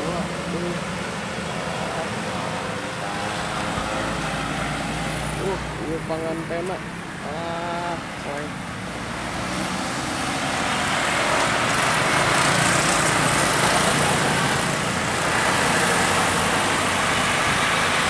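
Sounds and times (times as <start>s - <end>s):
tyre noise on road: 0.0s - 18.0s
vehicle engines passing: 0.0s - 18.0s.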